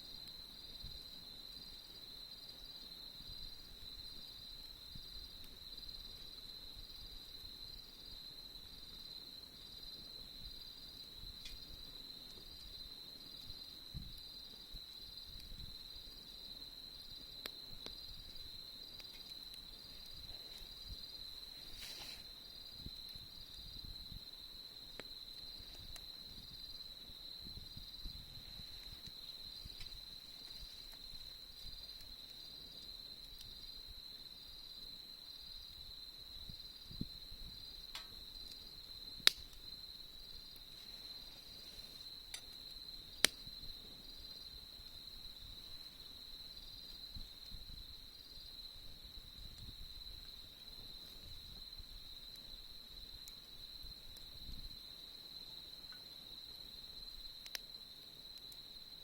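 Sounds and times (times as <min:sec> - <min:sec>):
campfire popping: 0:00.0 - 0:59.0
crickets trilling: 0:00.0 - 0:59.0.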